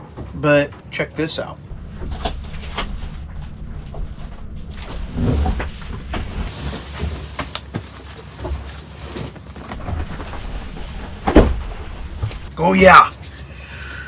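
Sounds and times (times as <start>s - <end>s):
scraping and rustling: 2.1s - 13.7s.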